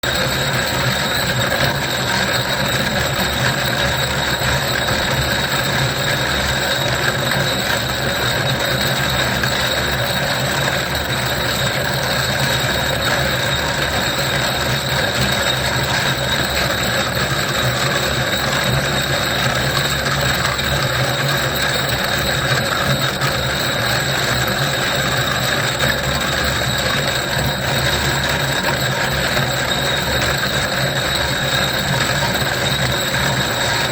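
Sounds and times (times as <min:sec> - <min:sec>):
constant machine hum: 0:00.0 - 0:33.9
stone grinding machine grinding: 0:00.0 - 0:33.9.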